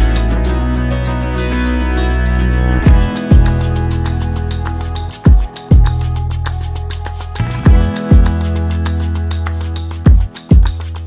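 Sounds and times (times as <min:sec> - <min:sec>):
held chords: 0:00.0 - 0:11.0.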